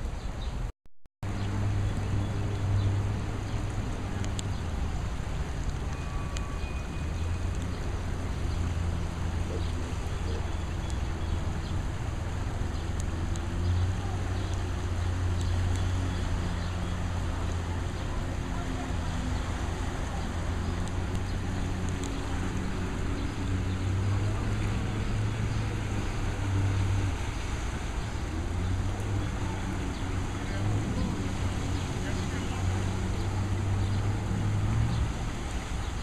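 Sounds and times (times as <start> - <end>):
outboard motor running: 1.3 - 36.0.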